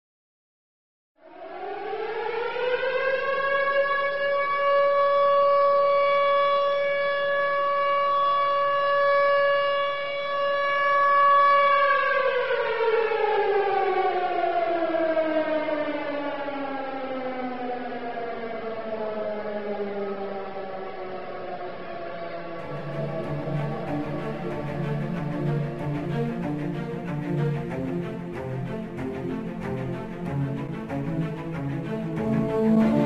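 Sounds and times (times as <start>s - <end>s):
air-raid siren wailing: 1.2s - 33.0s.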